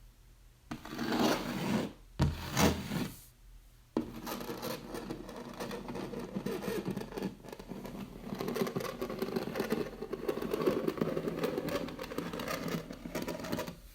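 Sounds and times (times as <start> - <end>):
fingernails scratching a wall: 0.7 - 3.2, 4.0 - 13.8.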